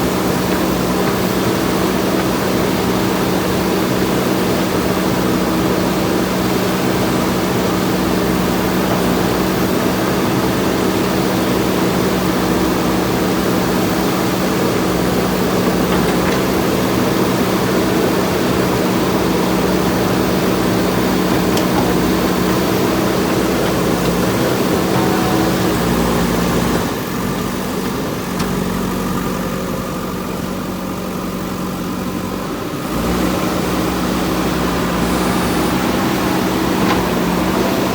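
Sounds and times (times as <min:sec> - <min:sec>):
diesel engine running steadily: 0:00.0 - 0:37.9.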